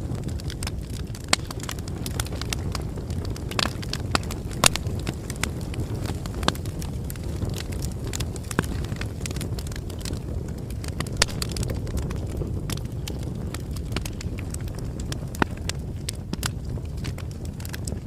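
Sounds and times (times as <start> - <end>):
bonfire crackling: 0.0 - 18.0
low rumble of burning: 0.0 - 18.0.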